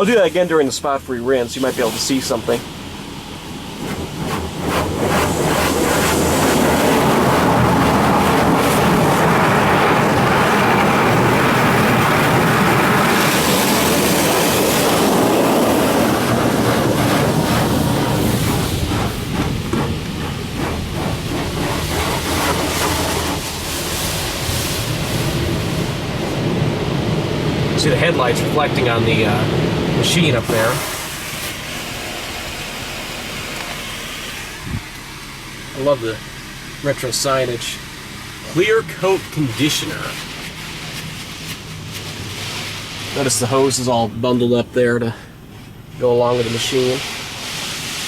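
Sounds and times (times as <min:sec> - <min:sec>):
car wash machine rumble: 0:00.0 - 0:48.0
car wash water jets spraying: 0:00.0 - 0:48.0.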